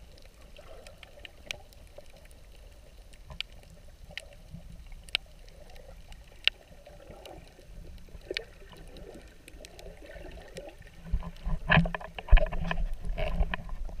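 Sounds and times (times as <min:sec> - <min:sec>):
muffled underwater sloshing: 0:00.0 - 0:14.0.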